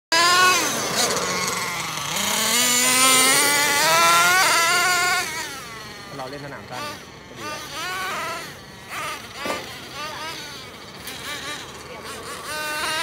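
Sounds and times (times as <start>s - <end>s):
small engine revving high pitch: 0.1s - 13.0s.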